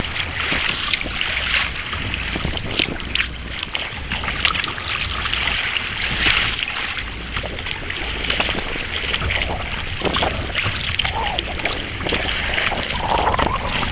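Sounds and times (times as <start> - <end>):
water splashing around kayak: 0.0 - 13.9
wind rumble on microphone: 0.0 - 13.9.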